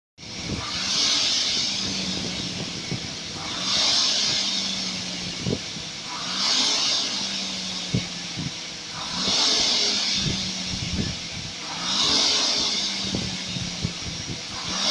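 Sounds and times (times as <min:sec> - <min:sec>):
rowing machine flywheel whooshing: 0:00.2 - 0:14.9.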